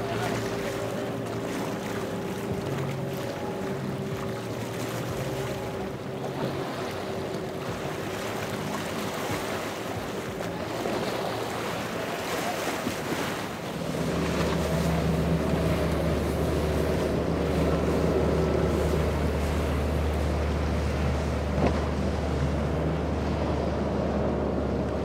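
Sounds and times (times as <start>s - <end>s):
low engine drone of passing boat: 0.0s - 25.0s
outboard boat engines: 0.0s - 25.0s
waves and spray: 0.0s - 25.0s.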